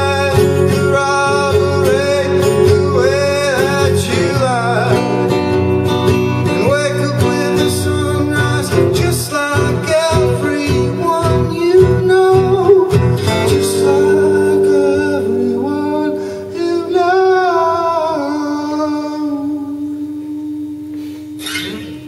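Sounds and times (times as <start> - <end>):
man singing: 0.0 - 20.6
acoustic guitar strumming: 0.0 - 22.0.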